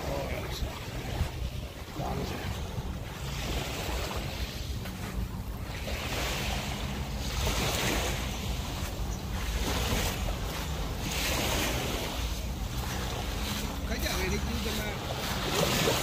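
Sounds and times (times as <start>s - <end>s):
waves washing onto shore: 0.0s - 16.0s
wind rumbling on microphone: 0.0s - 16.0s.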